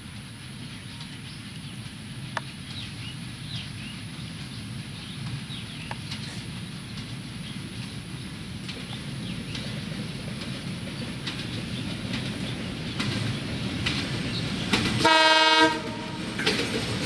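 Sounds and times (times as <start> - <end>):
diesel locomotive rumble: 0.0 - 17.0
birds chirping: 0.4 - 15.0.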